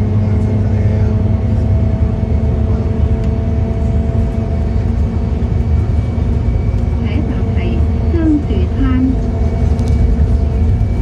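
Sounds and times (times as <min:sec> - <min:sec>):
bus engine rumble: 0:00.0 - 0:11.0
steady hum tones: 0:00.0 - 0:11.0.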